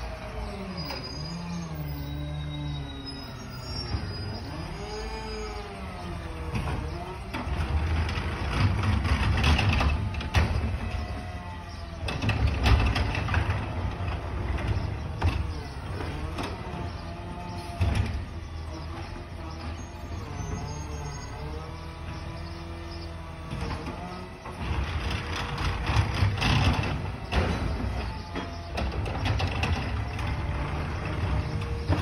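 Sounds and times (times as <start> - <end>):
garbage truck engine revving: 0.0 - 32.0.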